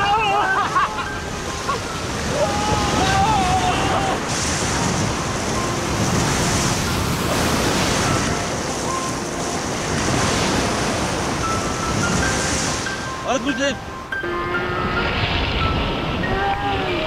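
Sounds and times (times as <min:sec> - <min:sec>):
surf breaking and foaming: 0:00.0 - 0:17.0.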